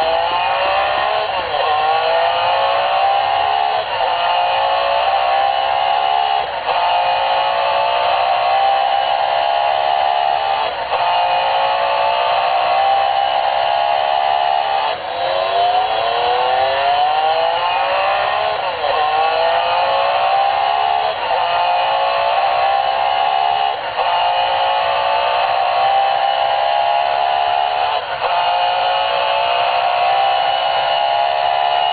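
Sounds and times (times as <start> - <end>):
racing car engine revving: 0.0 - 31.9.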